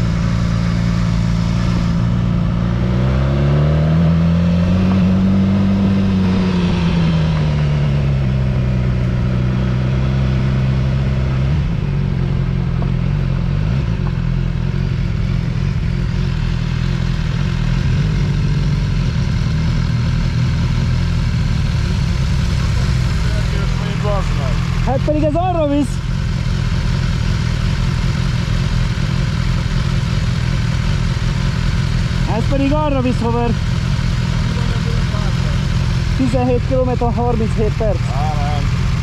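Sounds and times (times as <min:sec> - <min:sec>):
road noise: 0:00.0 - 0:39.0
vehicle engine running: 0:00.0 - 0:39.0.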